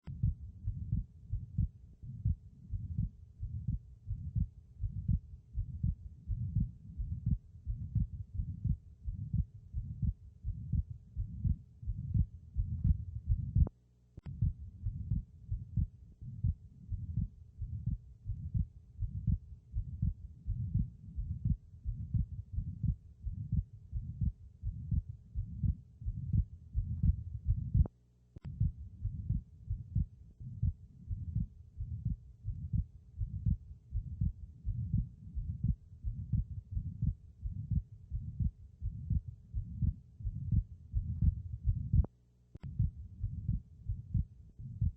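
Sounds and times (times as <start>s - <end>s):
heartbeat through a stethoscope: 0.0s - 44.9s
heart murmur: 0.1s - 27.9s, 28.5s - 44.9s.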